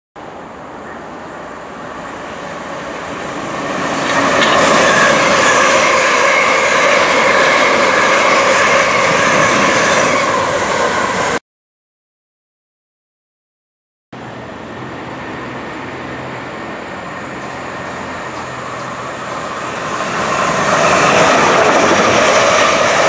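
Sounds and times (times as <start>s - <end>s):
electric train passing: 0.2s - 11.4s, 14.2s - 23.0s.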